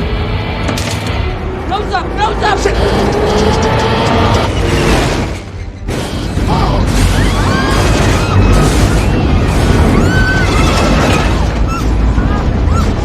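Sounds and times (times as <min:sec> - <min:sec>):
dramatic score music: 0:00.0 - 0:13.0.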